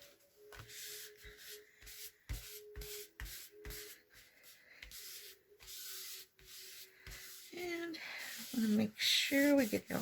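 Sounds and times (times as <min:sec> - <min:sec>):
hands scuffing paper: 0:00.0 - 0:10.0.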